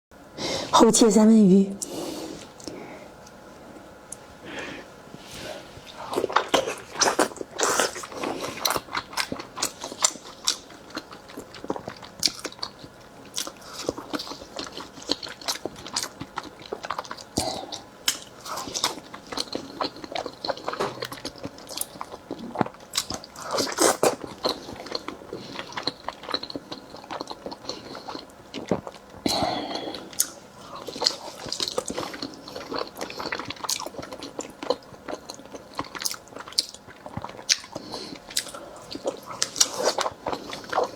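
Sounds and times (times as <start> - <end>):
person chewing with mouth clicks: 5.8 - 40.9.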